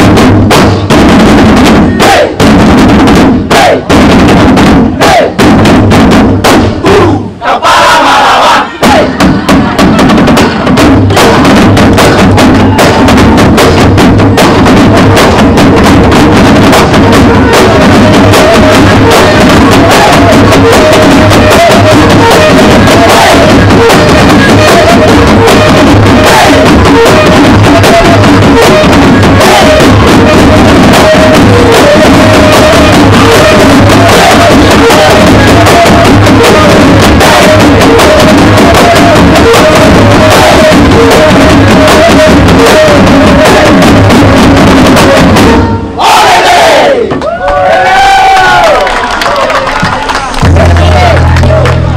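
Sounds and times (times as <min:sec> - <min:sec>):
hand drums beating fast: 0:00.0 - 0:06.8, 0:08.8 - 0:45.6.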